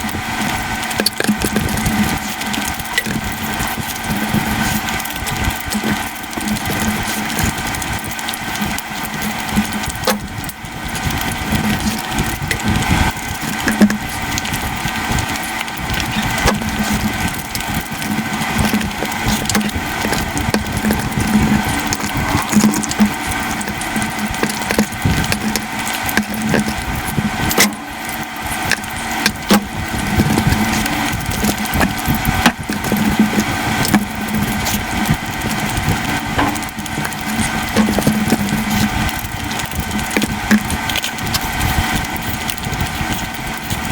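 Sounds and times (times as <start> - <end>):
sped-up chewing crackle: 0.0 - 43.9.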